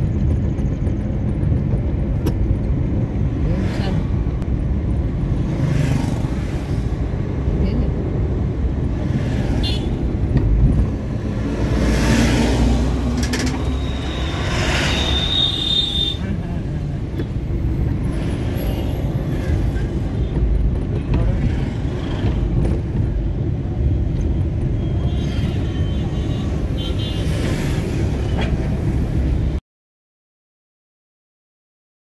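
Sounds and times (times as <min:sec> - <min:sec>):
heavy highway traffic rumble: 0:00.0 - 0:29.6.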